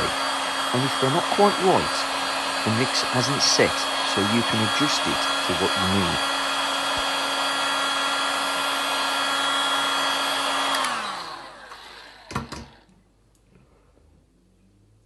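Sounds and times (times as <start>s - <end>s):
heat gun fan whine: 0.0s - 12.9s.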